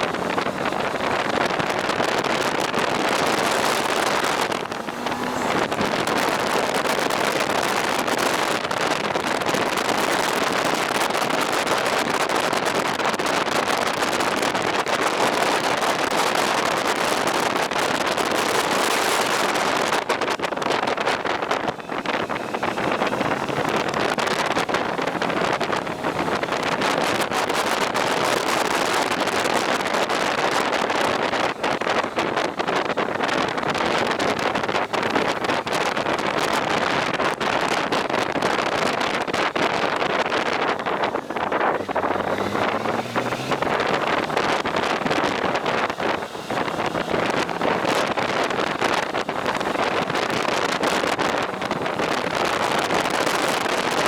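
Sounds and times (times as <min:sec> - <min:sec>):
vehicle road noise: 0:00.0 - 0:54.0
wind rushing on microphone: 0:00.0 - 0:54.0.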